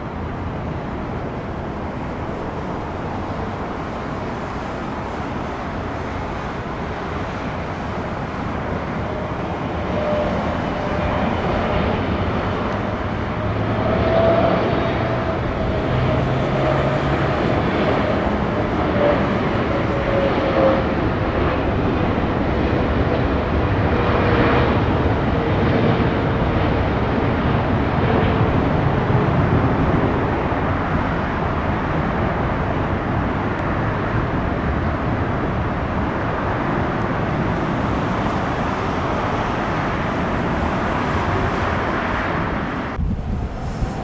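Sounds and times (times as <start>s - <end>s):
jet engine rushing: 0.0s - 44.0s.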